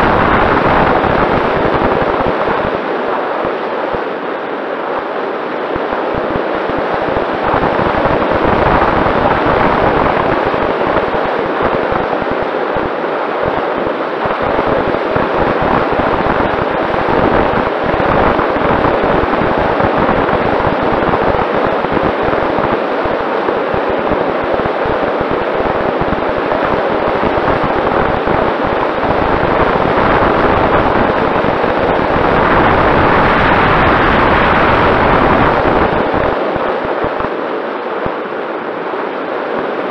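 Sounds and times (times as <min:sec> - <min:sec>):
wind buffeting microphone: 0:00.0 - 0:04.2, 0:04.9 - 0:39.9.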